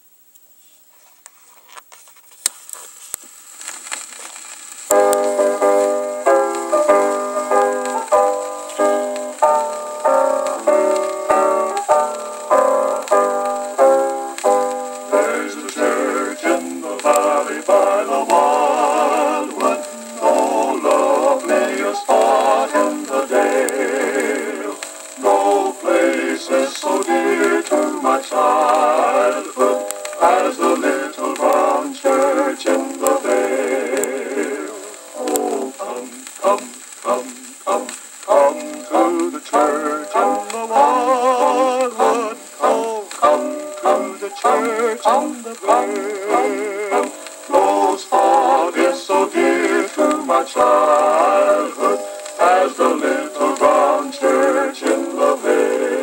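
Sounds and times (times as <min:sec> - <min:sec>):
record surface crackle: 0:00.0 - 0:56.0
piano introduction: 0:04.9 - 0:56.0
quartet singing in harmony: 0:08.8 - 0:56.0.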